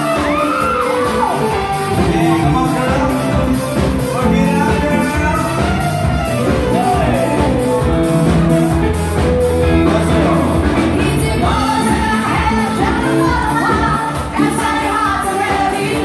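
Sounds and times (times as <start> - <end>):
person singing: 0.0 - 8.1, 9.6 - 16.0
drum kit beat: 0.0 - 16.0
live band playing: 0.0 - 16.0.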